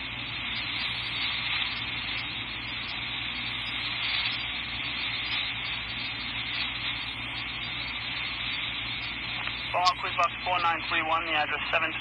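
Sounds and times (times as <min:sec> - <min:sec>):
low hum: 0:00.0 - 0:12.0
radio hiss: 0:00.0 - 0:12.0.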